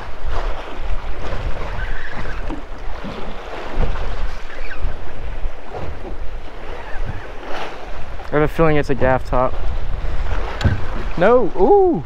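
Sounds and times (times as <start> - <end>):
waves lapping against boat hull: 0.0 - 12.0
wind buffeting microphone: 0.0 - 12.0.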